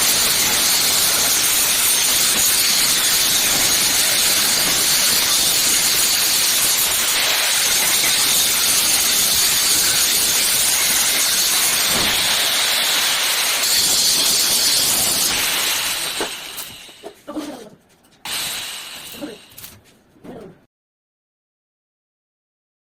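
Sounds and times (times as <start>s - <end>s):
angle grinder grinding metal: 0.0s - 17.3s, 18.3s - 19.8s.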